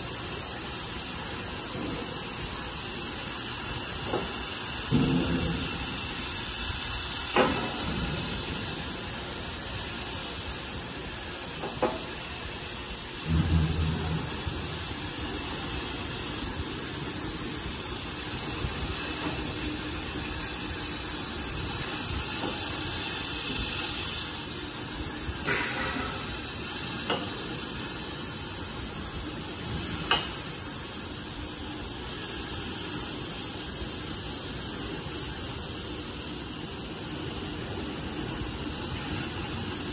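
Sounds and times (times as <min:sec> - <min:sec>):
cutting torch hissing: 0:00.0 - 0:39.9.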